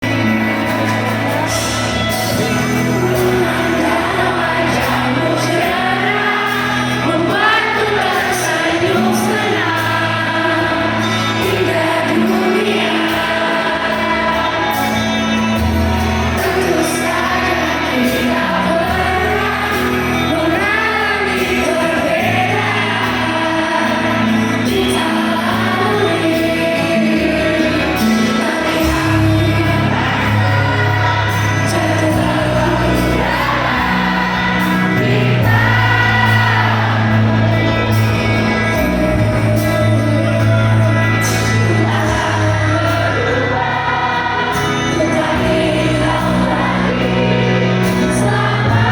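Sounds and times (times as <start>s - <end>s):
pop band playing: 0.0s - 48.9s
female lead vocal: 0.1s - 48.9s.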